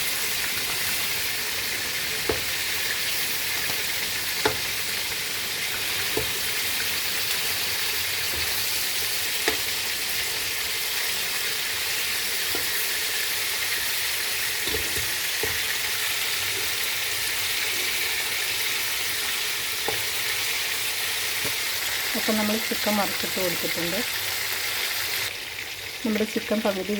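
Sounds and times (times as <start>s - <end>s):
chicken frying in hot oil: 0.0s - 26.9s.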